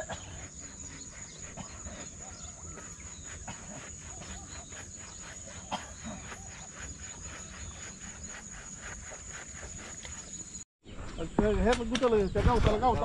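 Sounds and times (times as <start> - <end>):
insects droning and chirping: 0.0 - 13.0.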